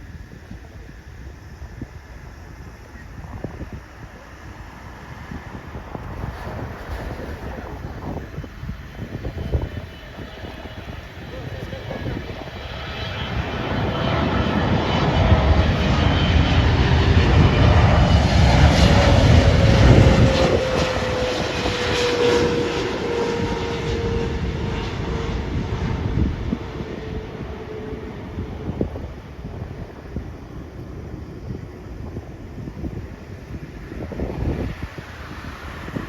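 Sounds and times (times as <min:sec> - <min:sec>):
jet airliner engine rumble: 0:00.0 - 0:36.0
jet engine whine sliding down: 0:02.6 - 0:36.0.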